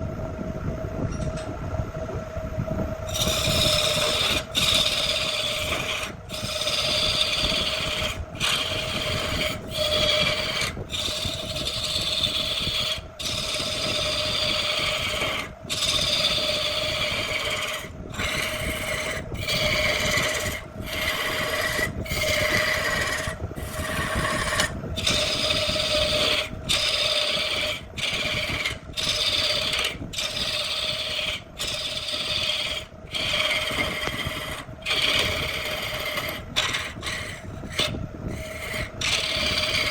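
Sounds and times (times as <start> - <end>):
steady hum: 0.0 - 39.9
tool rasping on wood: 3.1 - 39.9.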